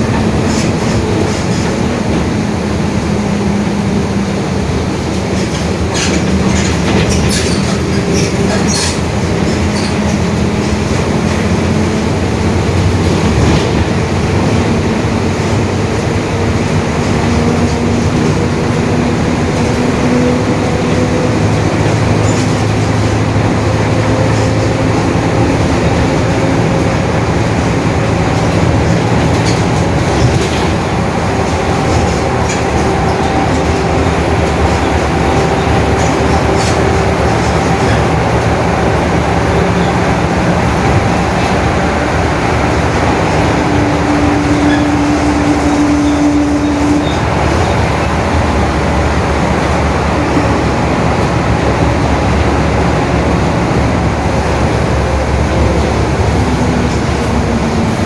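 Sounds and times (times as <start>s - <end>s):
bus diesel and road drone: 0.0s - 58.0s.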